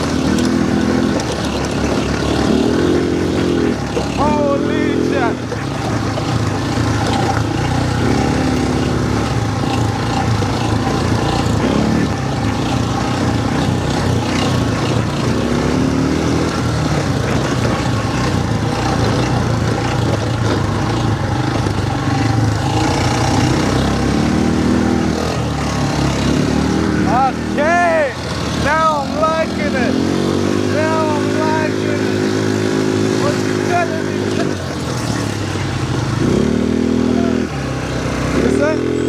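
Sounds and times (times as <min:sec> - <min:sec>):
quad bike engine revving: 0:00.0 - 0:39.0.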